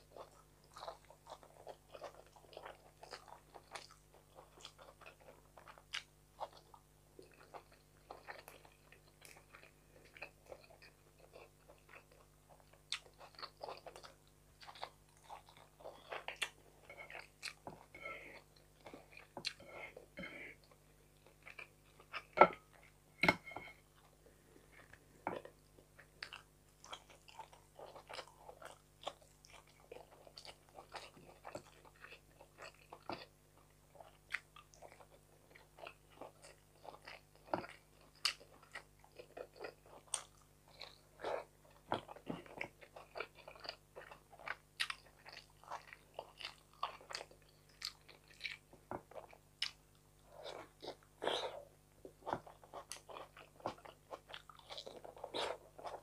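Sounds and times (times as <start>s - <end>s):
chewing with mouth clicks: 0.1s - 22.9s, 23.6s - 56.0s.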